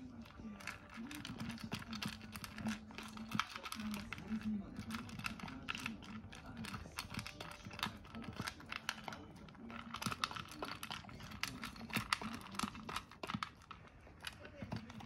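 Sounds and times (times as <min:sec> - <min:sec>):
dog crunching dry kibble: 0:00.0 - 0:15.0.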